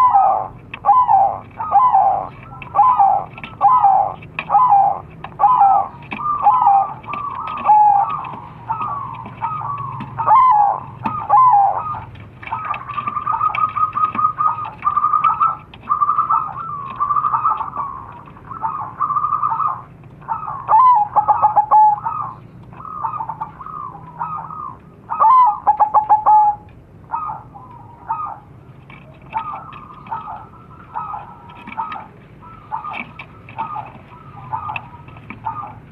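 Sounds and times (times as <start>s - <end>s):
bird rapid notes: 0.0s - 35.9s
doves cooing: 0.0s - 35.9s.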